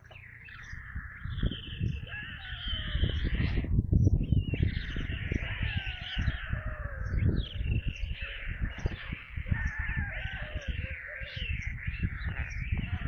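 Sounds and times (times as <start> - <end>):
storks raspy cawing: 0.0 - 3.7, 4.8 - 13.0.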